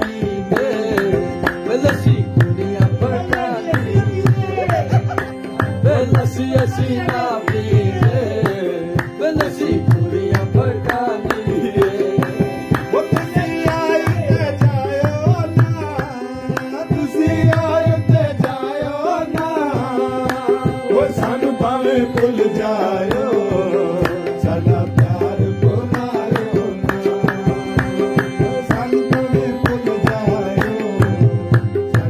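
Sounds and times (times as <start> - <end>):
man singing folk verses: 0.0 - 5.0, 5.8 - 32.0
drum-like percussion: 0.0 - 32.0
rhythmic hand clapping: 0.0 - 32.0.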